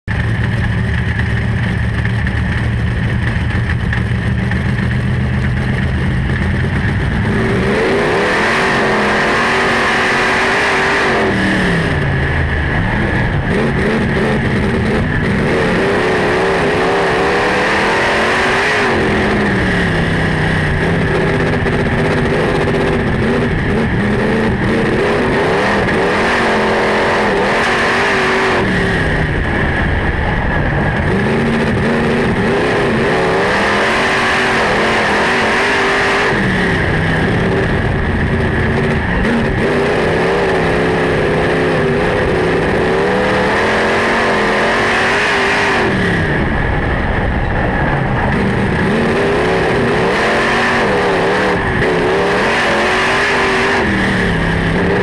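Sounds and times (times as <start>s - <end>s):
race car engine revving: 0.0s - 55.0s
high whine: 0.1s - 55.0s.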